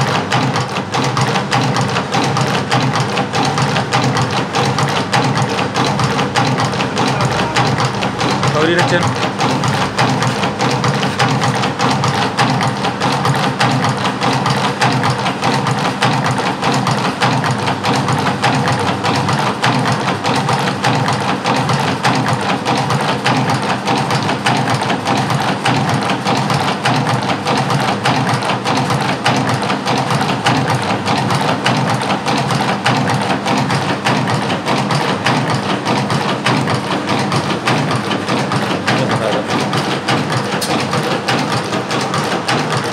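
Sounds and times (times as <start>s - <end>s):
chain-making machine clattering: 0.0s - 42.9s.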